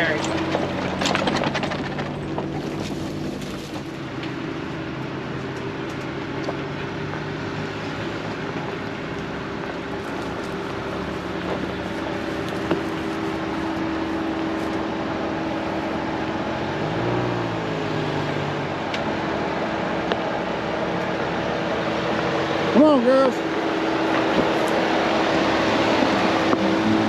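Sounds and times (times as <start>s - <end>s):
tyre and road noise: 0.0s - 27.0s
vehicle engine running: 0.0s - 27.0s.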